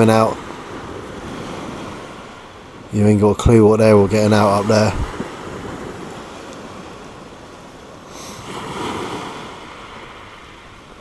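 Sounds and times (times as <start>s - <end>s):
small sea waves breaking: 0.0s - 11.0s.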